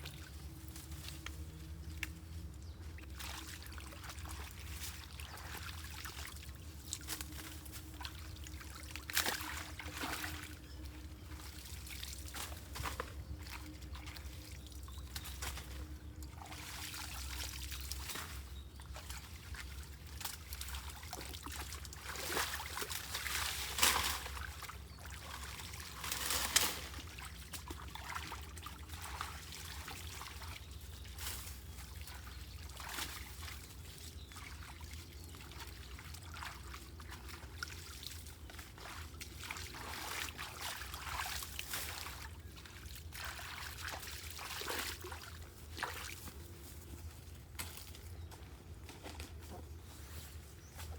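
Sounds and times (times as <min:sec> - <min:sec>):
water splashes: 0:03.1 - 0:30.7, 0:31.9 - 0:46.3.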